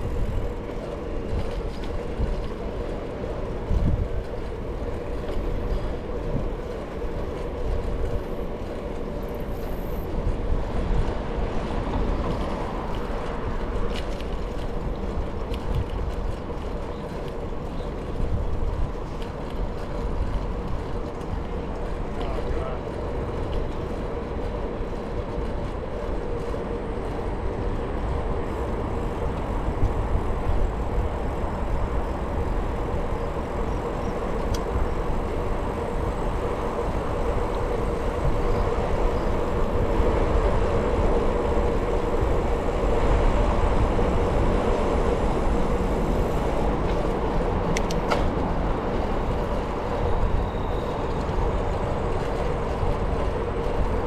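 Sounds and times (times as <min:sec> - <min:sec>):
bicycle rolling noise: 0:00.0 - 0:54.0.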